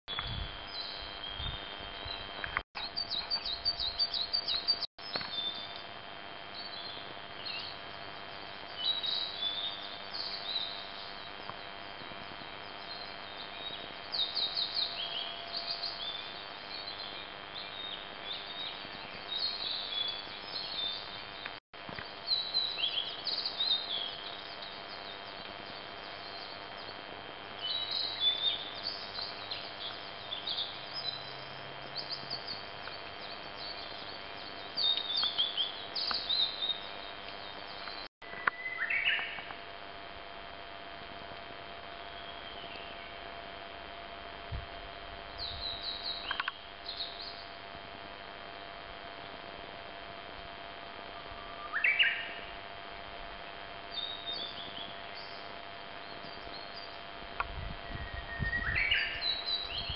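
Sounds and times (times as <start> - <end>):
small birds chirping: 0.1 - 39.6, 45.3 - 48.9, 53.7 - 59.9
background hiss: 0.1 - 59.9.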